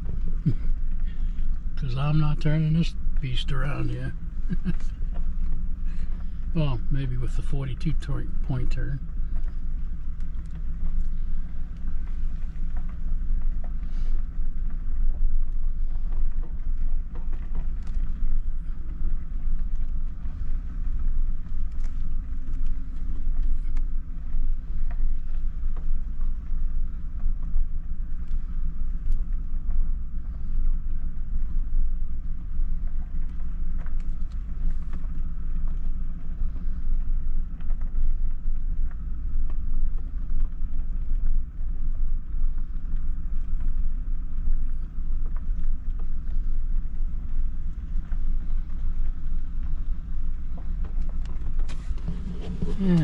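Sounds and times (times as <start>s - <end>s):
vehicle engine and road noise: 0.0s - 41.5s, 47.0s - 53.0s.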